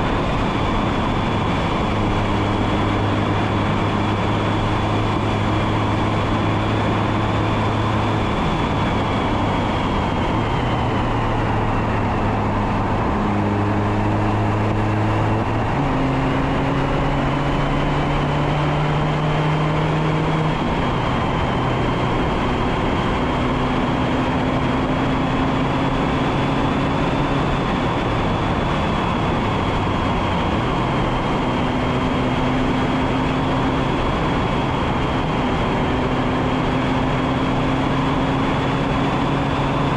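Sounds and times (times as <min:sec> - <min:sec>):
car engine revving through gears: 0:00.0 - 0:39.9
wind noise on microphone: 0:00.0 - 0:39.9.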